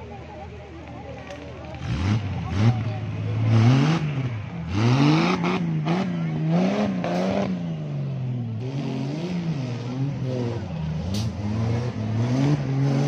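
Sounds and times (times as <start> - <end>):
buggy engine revving: 1.2 - 13.0.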